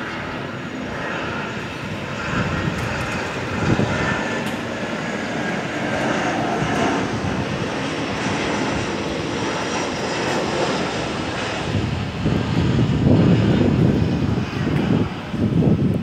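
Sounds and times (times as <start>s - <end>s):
jet airliner passing: 0.0s - 16.0s.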